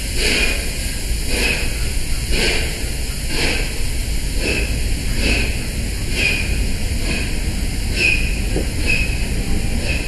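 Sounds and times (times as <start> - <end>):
steam train whooshing beat: 0.0 - 10.0
train low rumble: 0.0 - 10.0.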